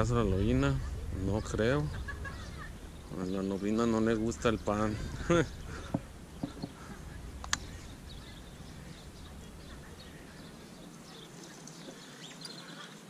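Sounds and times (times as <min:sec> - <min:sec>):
low rumble: 0:00.0 - 0:11.4
faint bird chirps: 0:00.0 - 0:13.0.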